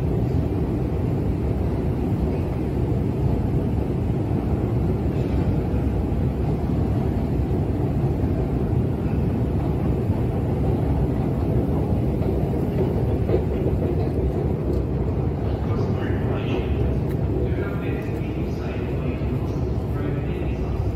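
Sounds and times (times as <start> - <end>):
escalators rumbling: 0.0 - 20.9.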